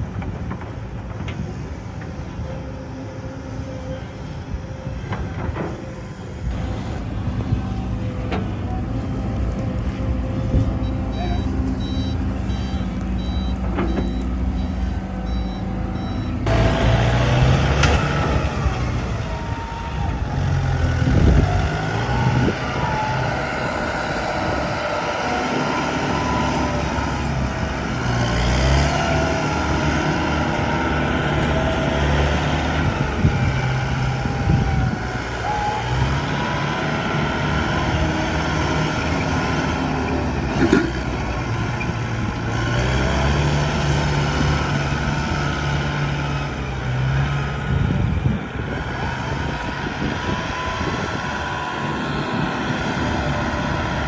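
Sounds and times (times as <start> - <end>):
diesel machinery engine running: 0.0 - 54.0.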